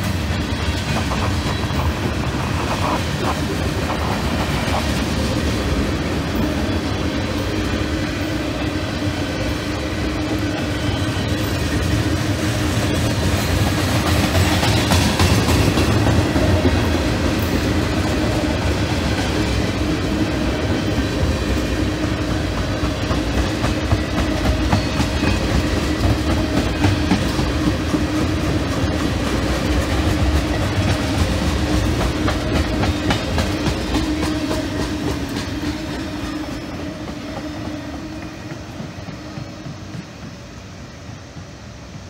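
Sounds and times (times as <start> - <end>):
freight train wheels clattering: 0.0 - 42.0.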